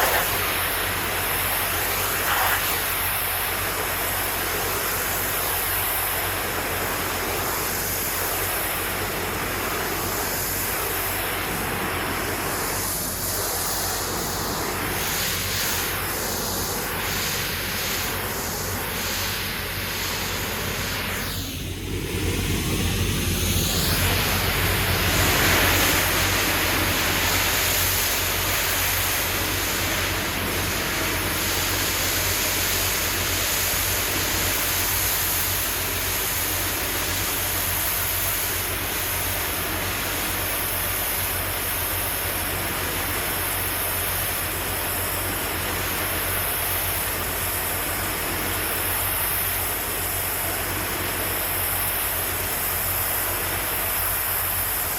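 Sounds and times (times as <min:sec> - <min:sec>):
low machine hum: 0:00.0 - 0:54.9
pressure washer spraying concrete: 0:00.0 - 0:54.9.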